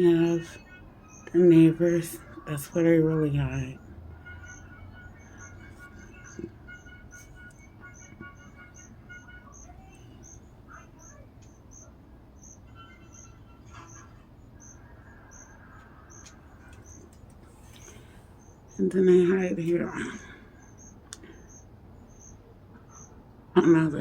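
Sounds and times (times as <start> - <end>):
crickets chirping: 0.0 - 23.2.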